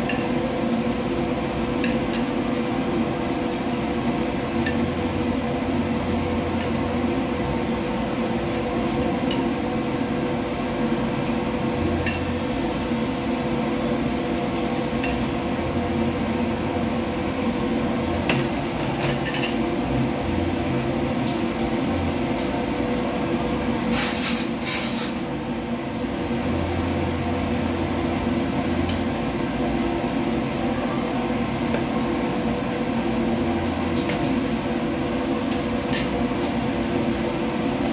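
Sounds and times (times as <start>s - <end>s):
kitchen machinery hum: 0.0s - 37.9s.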